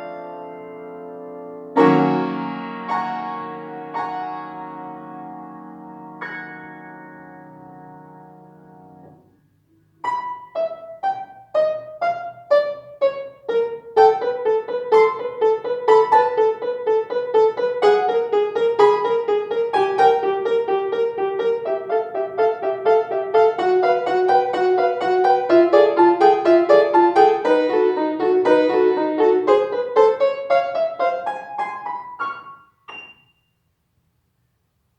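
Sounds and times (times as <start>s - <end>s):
solo piano piece: 0.0s - 34.1s.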